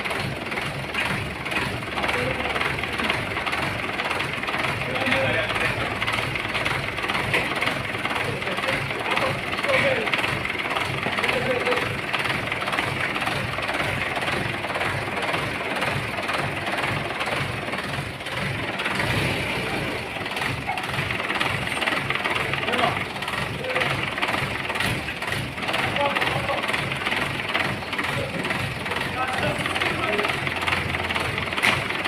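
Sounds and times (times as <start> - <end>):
engine running with low throb: 0.0 - 32.0.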